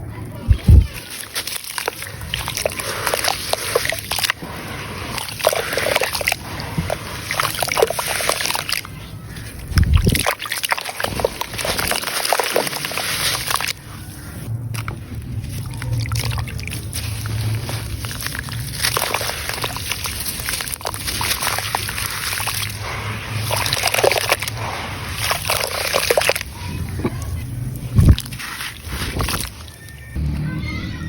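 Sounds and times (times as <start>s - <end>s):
water sloshing and splashing: 0.3s - 30.2s
sand crumbling into water: 0.5s - 30.1s.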